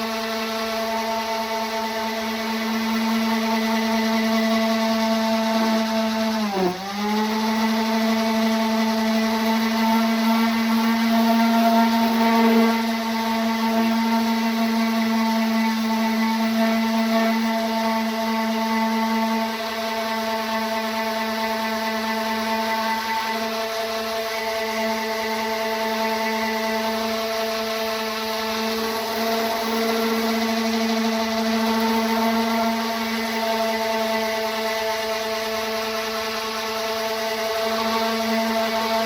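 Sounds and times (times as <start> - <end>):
electric orbital sander running: 0.0 - 39.0.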